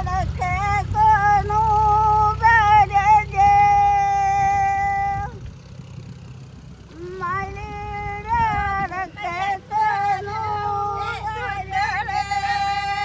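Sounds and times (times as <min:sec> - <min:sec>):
woman singing: 0:00.0 - 0:05.4, 0:06.9 - 0:13.0
low rumble: 0:00.0 - 0:13.0.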